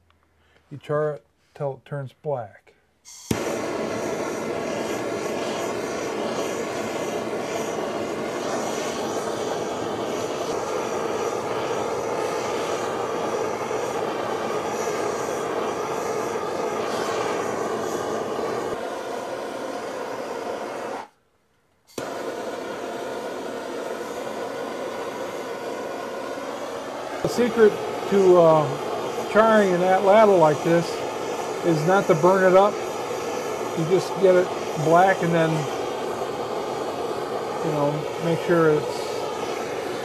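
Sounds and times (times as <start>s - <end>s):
propane torch hissing: 3.1s - 21.2s, 21.9s - 40.0s.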